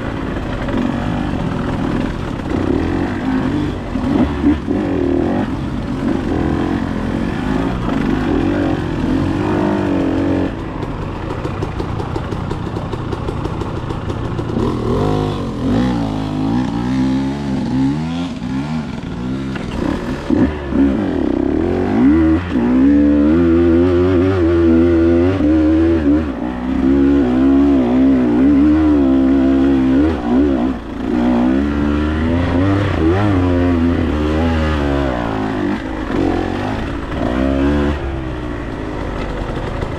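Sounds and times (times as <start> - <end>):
dirt bike engine revving: 0.0 - 12.3, 14.5 - 39.9.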